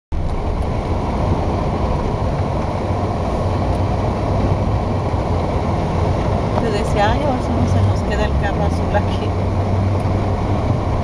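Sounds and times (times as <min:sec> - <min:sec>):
car driving through water: 0:00.2 - 0:11.0.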